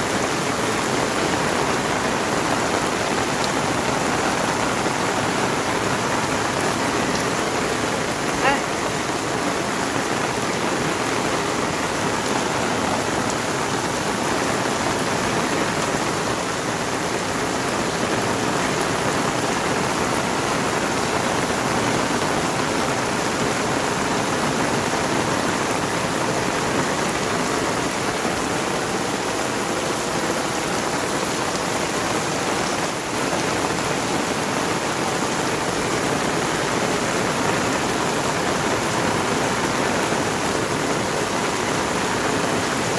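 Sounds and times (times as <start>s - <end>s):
heavy rain pattering: 0.0s - 42.9s.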